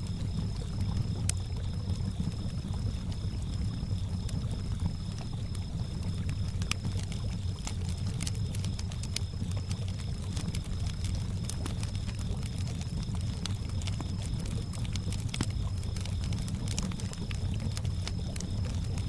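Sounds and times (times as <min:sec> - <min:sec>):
campfire crackling: 0:00.0 - 0:19.0
crickets chirping: 0:00.0 - 0:19.0.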